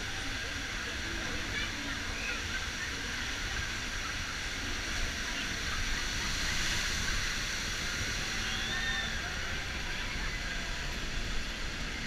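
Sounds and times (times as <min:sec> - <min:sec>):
water rushing and churning: 0:00.0 - 0:12.0.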